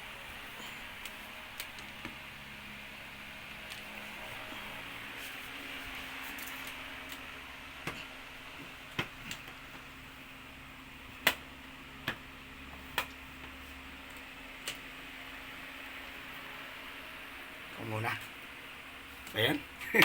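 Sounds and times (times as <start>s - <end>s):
low steady hiss: 0.0s - 20.0s.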